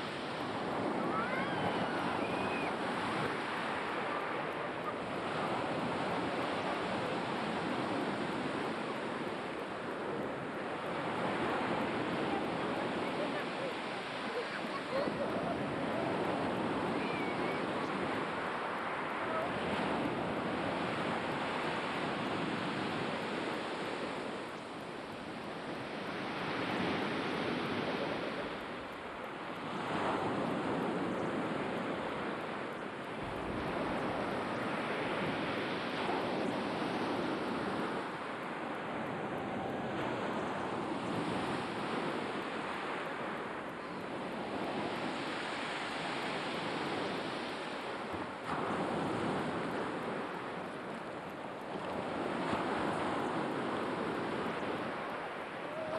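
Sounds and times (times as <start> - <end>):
waves breaking on shore: 0.0 - 55.9
wind on microphone: 0.0 - 55.9.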